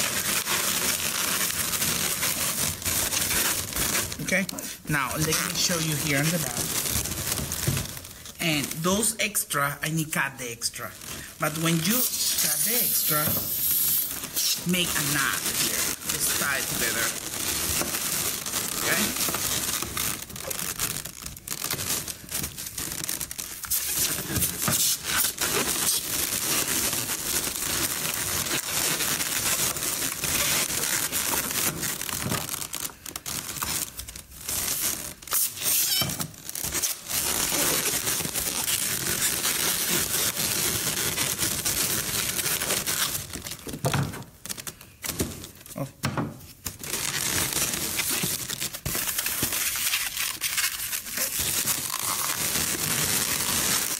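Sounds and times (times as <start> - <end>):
balloons rubbing and crinkling: 0.0 - 53.9.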